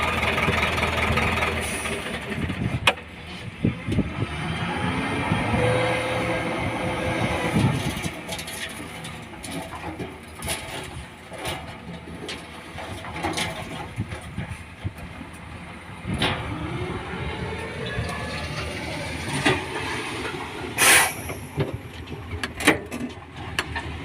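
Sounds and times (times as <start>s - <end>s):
diesel construction machinery running: 0.0s - 24.0s.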